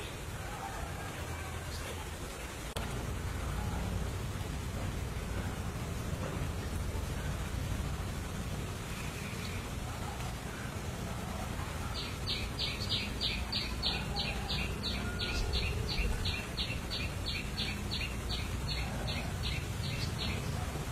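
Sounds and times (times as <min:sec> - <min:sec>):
low background rumble: 0:00.0 - 0:20.9.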